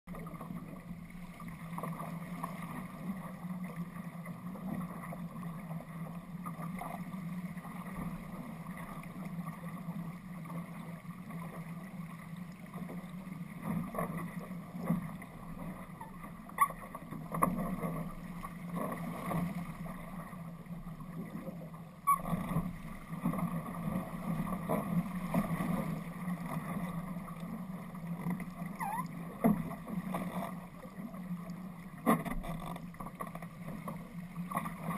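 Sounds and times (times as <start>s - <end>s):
water rushing along a hull: 0.1s - 34.9s.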